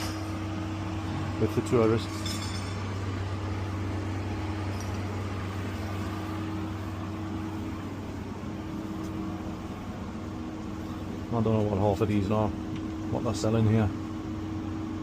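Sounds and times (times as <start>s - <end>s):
vending machines humming: 0.0s - 15.0s.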